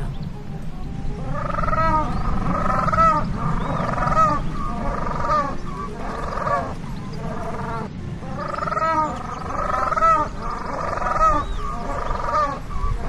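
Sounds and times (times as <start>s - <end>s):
penguin calling: 1.1s - 13.0s.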